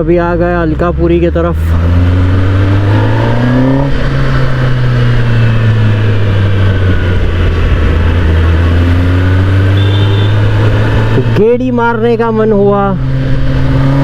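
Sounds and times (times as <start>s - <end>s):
motorcycle engine running: 0.0s - 14.0s
rush of noise: 1.4s - 14.0s.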